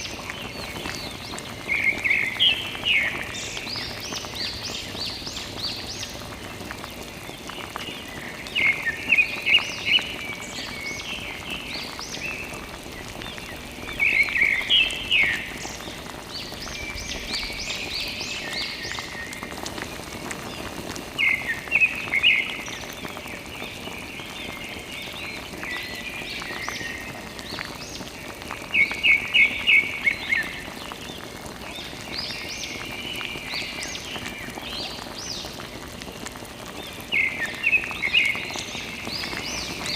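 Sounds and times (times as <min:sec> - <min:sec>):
background hiss: 0:00.0 - 0:39.9
birds chirping: 0:00.0 - 0:39.9.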